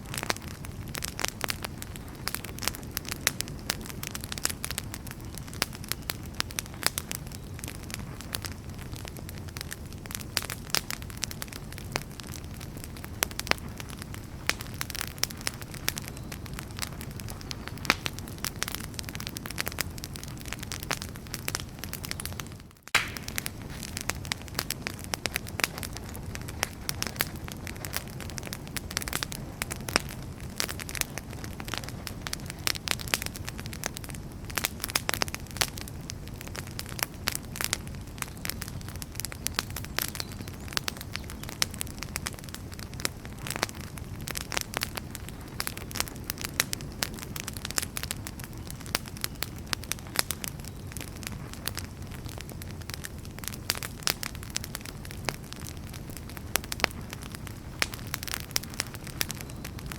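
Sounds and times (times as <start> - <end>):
firewood crackling and popping: 0.0 - 59.9
low rush of flames: 0.0 - 59.9.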